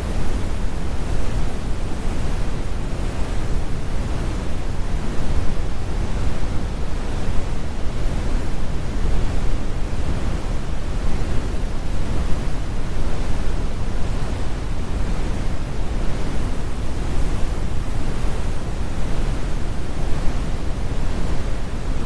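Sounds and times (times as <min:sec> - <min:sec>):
brown noise rumble: 0:00.0 - 0:22.0.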